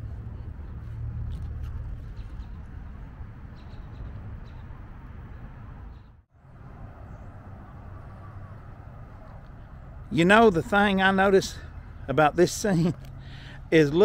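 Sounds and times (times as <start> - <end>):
steady low street rumble: 0.0 - 14.0.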